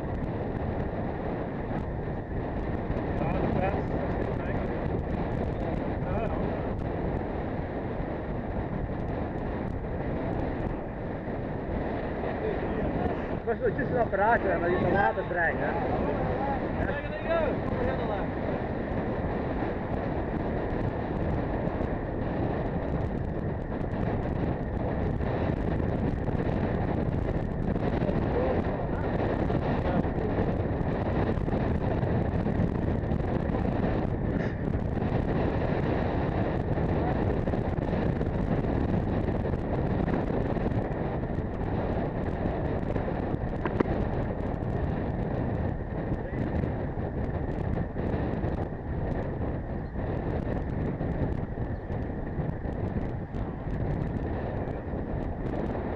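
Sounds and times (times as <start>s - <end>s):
bike rolling noise: 0.0s - 55.9s
wind rush on microphone: 0.0s - 55.9s.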